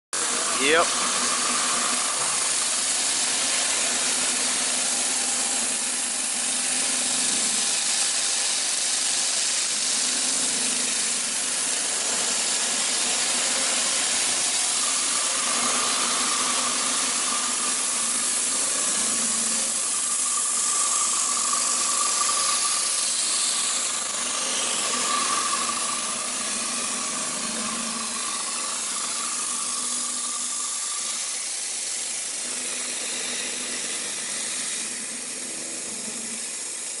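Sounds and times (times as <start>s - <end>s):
high steady machine whine: 0.2s - 37.0s.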